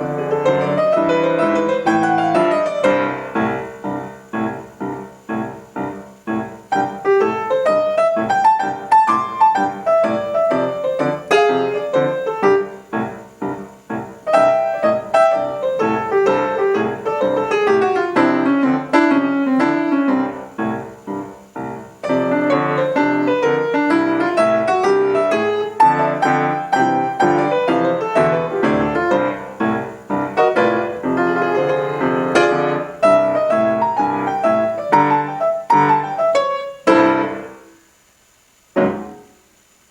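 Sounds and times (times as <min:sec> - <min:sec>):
solo piano fast runs: 0:00.0 - 0:37.9, 0:38.6 - 0:39.9.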